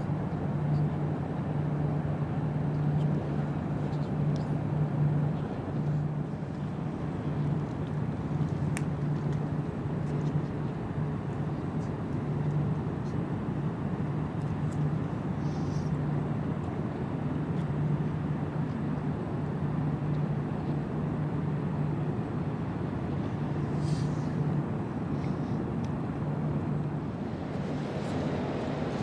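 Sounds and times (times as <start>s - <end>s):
ship engines droning: 0.0s - 29.0s.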